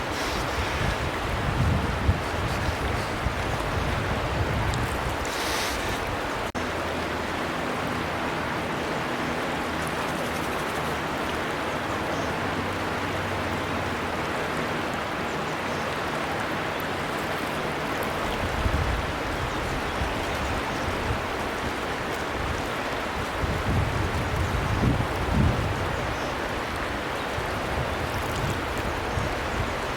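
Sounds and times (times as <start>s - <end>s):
river rushing: 0.0s - 29.9s.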